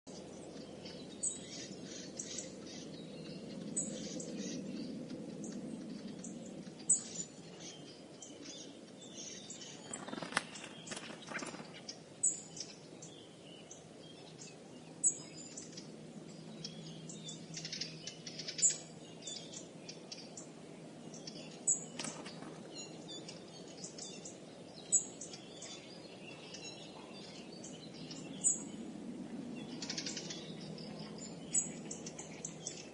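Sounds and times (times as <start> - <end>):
birds chirping and calling: 0.1 - 32.9
low steady background noise: 0.1 - 32.9.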